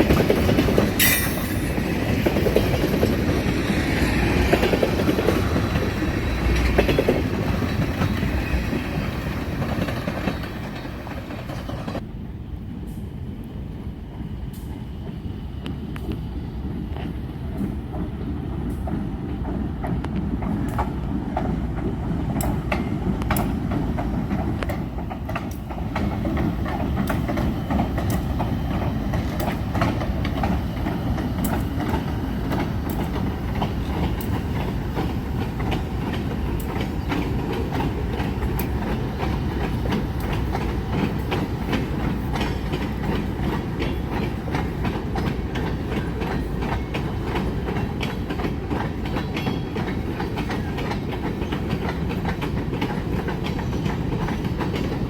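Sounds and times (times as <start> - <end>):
train wheels clicking over rail joints: 0.0 - 12.0, 14.1 - 55.0
freight train rolling past: 0.0 - 55.0.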